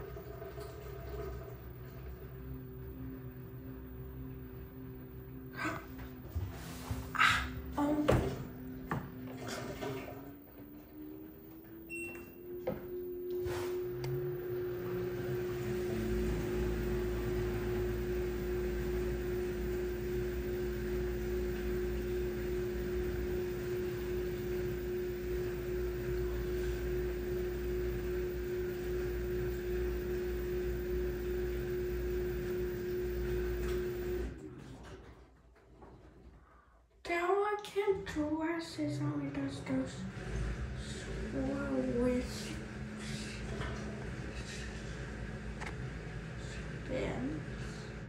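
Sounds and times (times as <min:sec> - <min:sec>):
washing machine motor whine: 0:00.0 - 0:35.6, 0:37.1 - 0:48.0.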